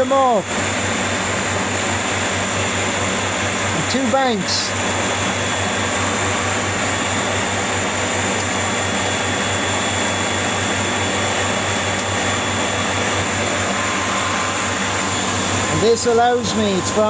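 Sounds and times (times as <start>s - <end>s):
electric motor whirring: 0.0s - 17.0s.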